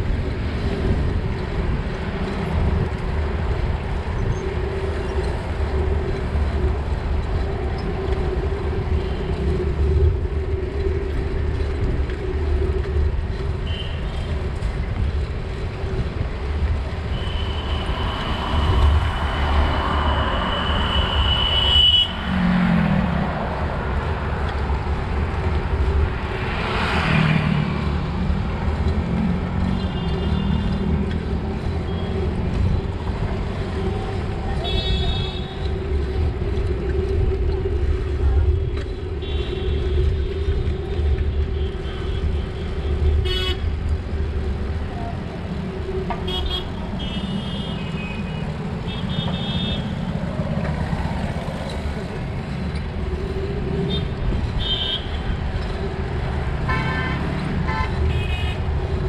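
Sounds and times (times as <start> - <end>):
city road traffic: 0.0 - 59.0
low wind rumble: 0.0 - 59.0
vehicles passing: 0.0 - 59.0.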